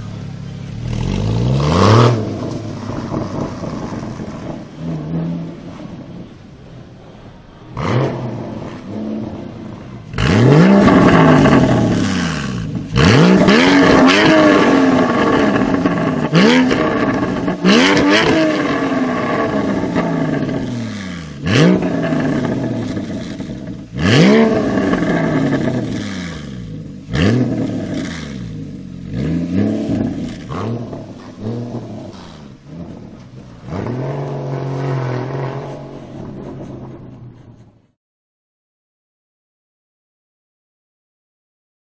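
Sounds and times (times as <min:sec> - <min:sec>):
sports car engine revving: 0:00.0 - 0:06.4, 0:07.0 - 0:37.4.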